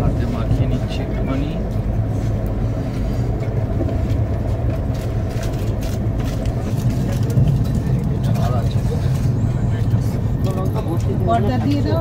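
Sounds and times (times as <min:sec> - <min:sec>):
train rumbling inside coach: 0:00.0 - 0:12.0.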